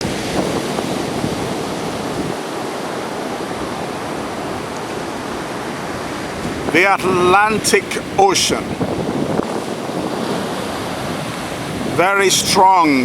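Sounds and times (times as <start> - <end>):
ocean surf rushing on beach: 0.0 - 13.0.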